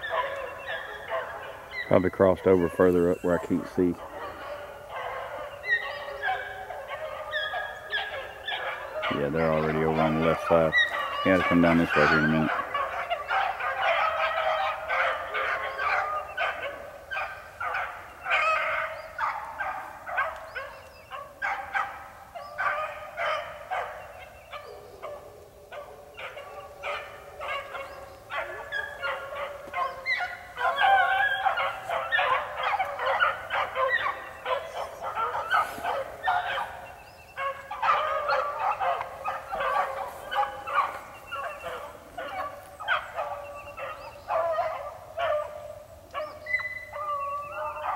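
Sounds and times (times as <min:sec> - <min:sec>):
pack of dogs baying: 0:00.0 - 0:47.9.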